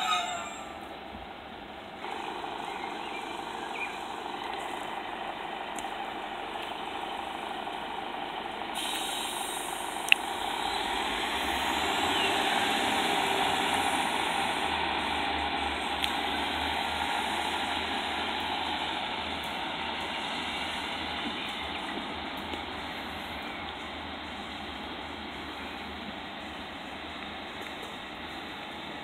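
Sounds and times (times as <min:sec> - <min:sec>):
diesel train engines running: 0:00.0 - 0:29.0
low engine drone: 0:00.0 - 0:29.0.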